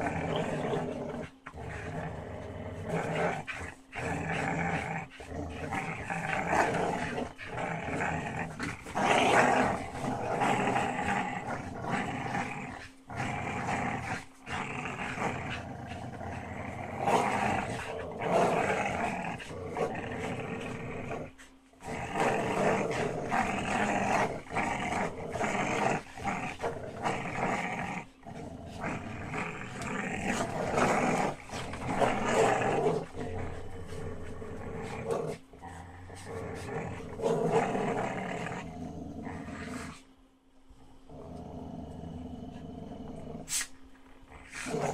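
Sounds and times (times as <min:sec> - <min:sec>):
dogs play growling: 0:00.0 - 0:44.9.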